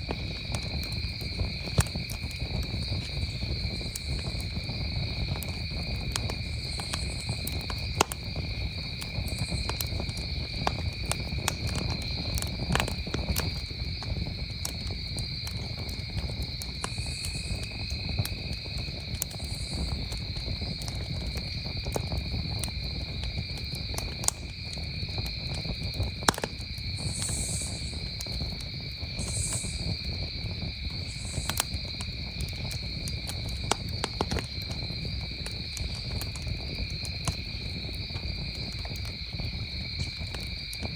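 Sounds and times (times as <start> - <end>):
campfire crackling and popping: 0.0 - 40.9
crickets trilling: 0.0 - 40.9.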